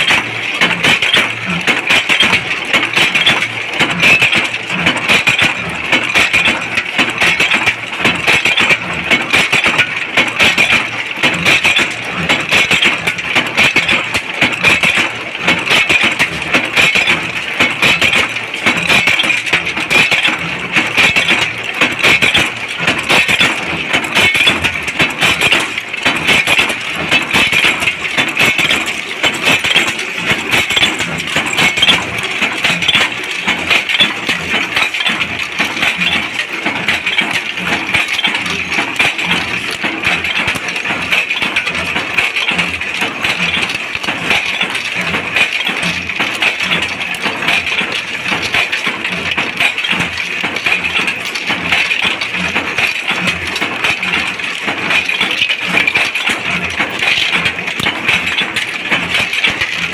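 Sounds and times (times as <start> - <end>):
factory machinery running: 0.0 - 59.9.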